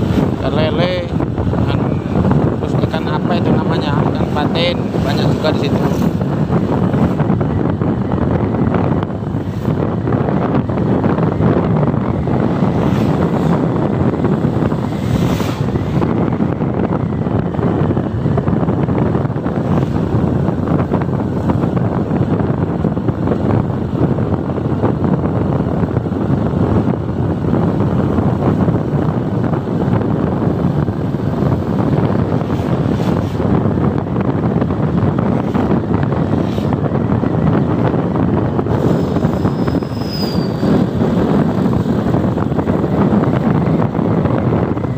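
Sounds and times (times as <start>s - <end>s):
motorcycle running: 0.0s - 44.9s
road noise: 0.0s - 44.9s
wind buffeting microphone: 0.0s - 44.9s.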